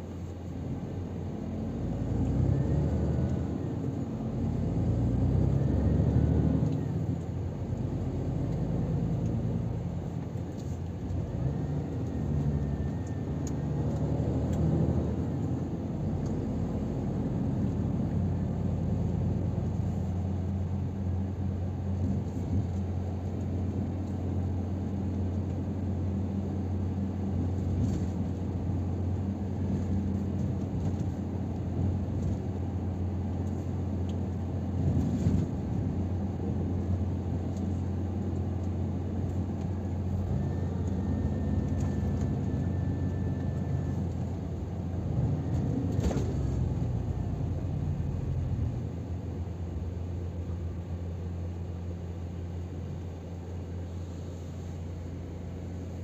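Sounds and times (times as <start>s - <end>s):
truck engine drone in cab: 0.0s - 56.0s.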